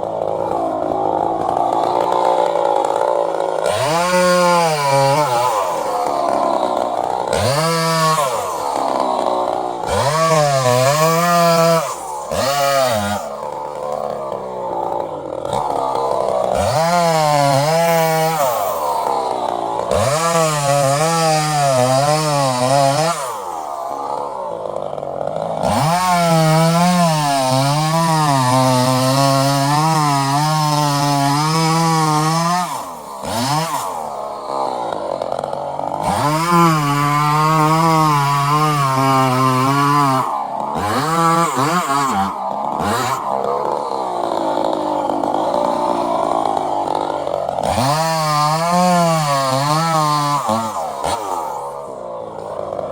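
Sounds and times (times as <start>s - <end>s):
chainsaw revving while cutting wood: 0.0s - 52.9s.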